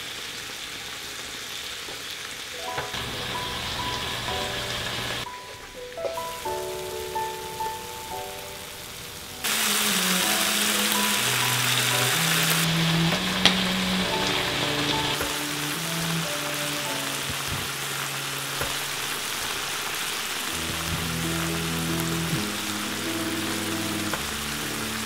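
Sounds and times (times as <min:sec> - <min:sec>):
meat and vegetables sizzling: 0:00.0 - 0:25.0.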